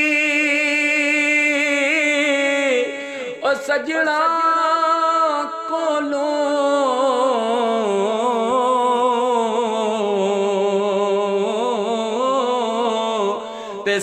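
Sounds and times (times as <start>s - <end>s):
man singing a long ornamented note: 0.0s - 14.0s.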